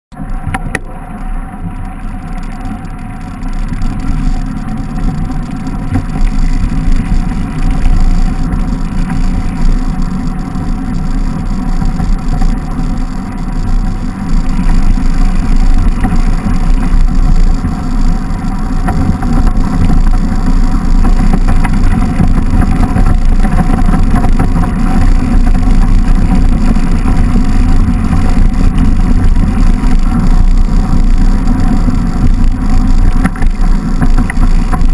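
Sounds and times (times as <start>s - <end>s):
tyres rumbling over packed snow: 0.1s - 34.9s
wind buffeting microphone: 2.2s - 34.9s.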